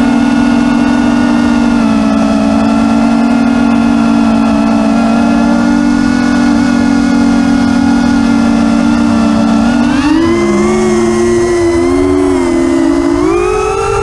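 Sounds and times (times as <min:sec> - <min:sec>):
drone rotors humming: 0:00.0 - 0:14.0.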